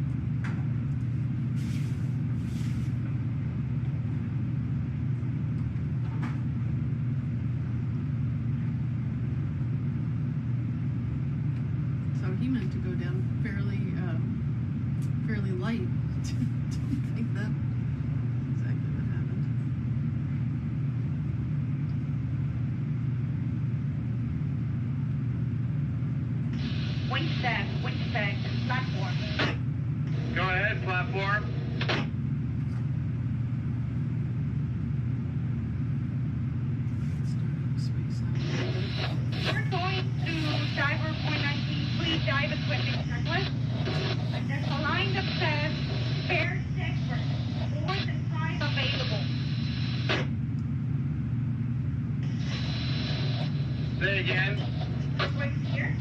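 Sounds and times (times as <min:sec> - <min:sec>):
low mechanical rumble: 0:00.0 - 0:56.0.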